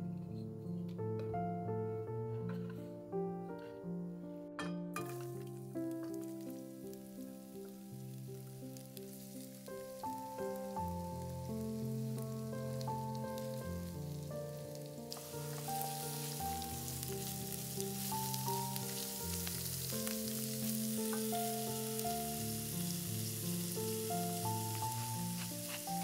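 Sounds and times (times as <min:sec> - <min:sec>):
soft background music: 0:00.0 - 0:26.0
vegetables sizzling in frying pan: 0:05.0 - 0:26.0.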